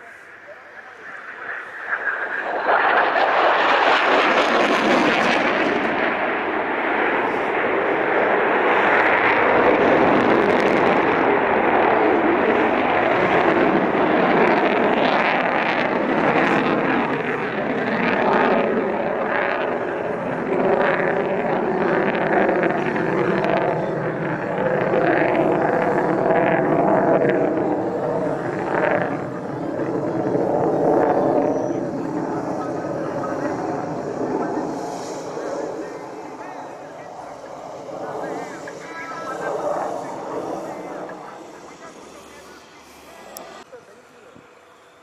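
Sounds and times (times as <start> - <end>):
jet engine roar: 0.0 - 45.0.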